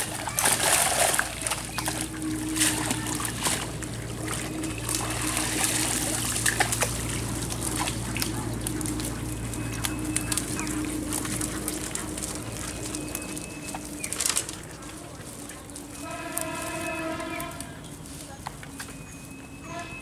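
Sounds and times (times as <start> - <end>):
steady low hum: 0.0 - 19.0
water trickling and splashing: 0.0 - 19.0.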